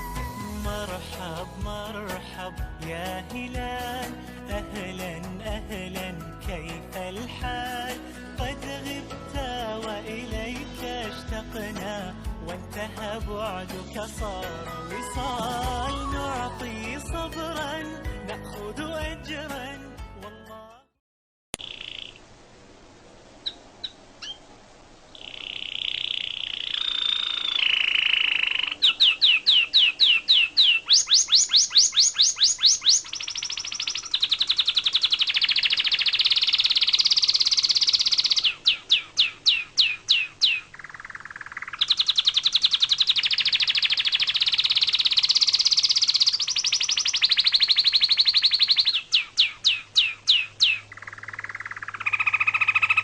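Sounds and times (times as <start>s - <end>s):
songbird trilling song: 0.0s - 19.0s, 21.6s - 22.2s, 23.4s - 24.5s, 25.1s - 53.0s.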